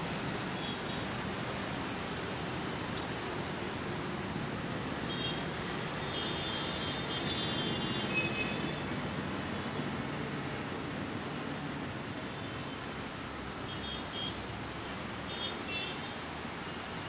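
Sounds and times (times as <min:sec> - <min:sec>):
distant road traffic rumble: 0:00.0 - 0:17.0.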